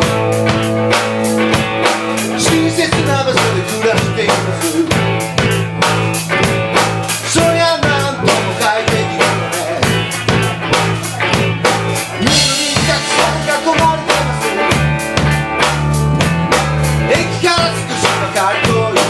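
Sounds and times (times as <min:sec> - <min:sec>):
bass drum and snare beat: 0:00.0 - 0:19.0
live band playing: 0:00.0 - 0:19.0.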